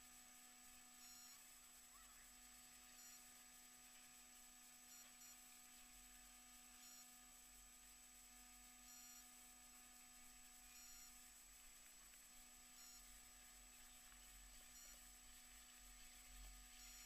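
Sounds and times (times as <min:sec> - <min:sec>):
faint electrical hum and hiss: 0:00.0 - 0:17.0.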